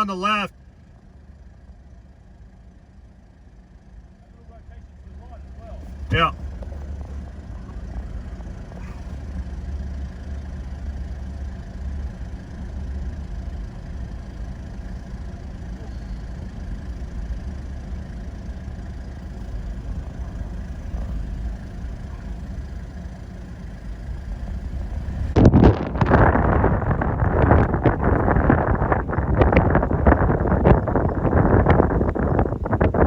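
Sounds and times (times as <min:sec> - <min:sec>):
vehicle engine rumbling: 0:00.0 - 0:33.0
wind buffeting microphone: 0:05.7 - 0:33.0.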